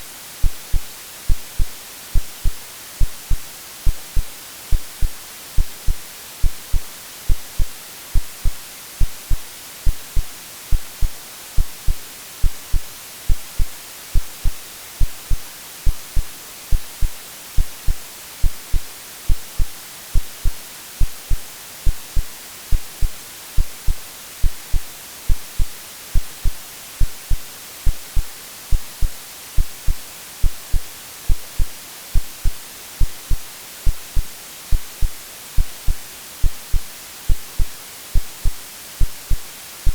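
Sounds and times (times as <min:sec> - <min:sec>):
white noise hiss: 0:00.0 - 0:39.9
heartbeat thumping: 0:00.4 - 0:39.9.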